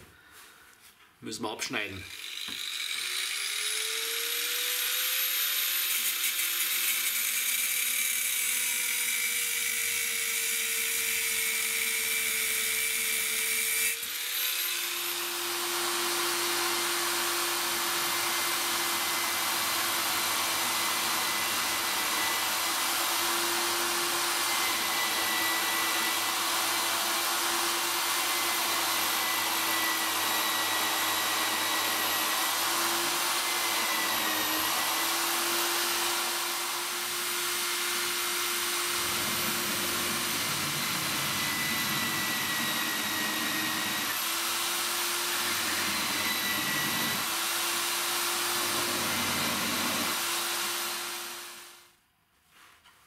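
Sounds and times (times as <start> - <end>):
angle grinder cutting metal: 2.0 - 51.8
drill boring through metal: 2.0 - 51.8.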